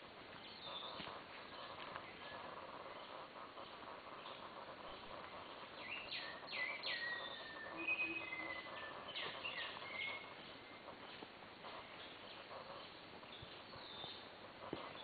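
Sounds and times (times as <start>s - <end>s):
forest background hiss: 0.0s - 15.0s
jungle birds calling: 0.0s - 15.0s.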